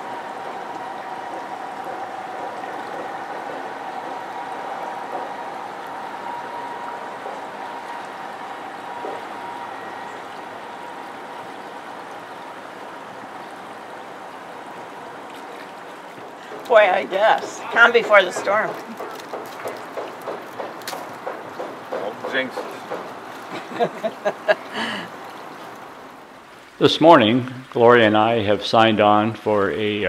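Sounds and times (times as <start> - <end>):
boat motor humming: 0.0 - 26.7
water washing along a hull: 0.0 - 30.0.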